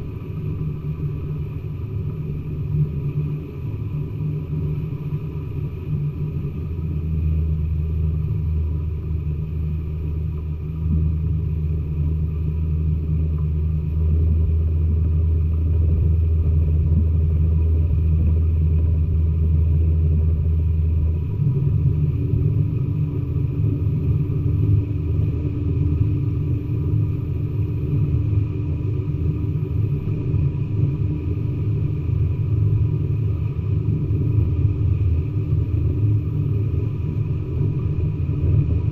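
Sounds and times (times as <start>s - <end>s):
low engine rumble: 0.0s - 38.9s.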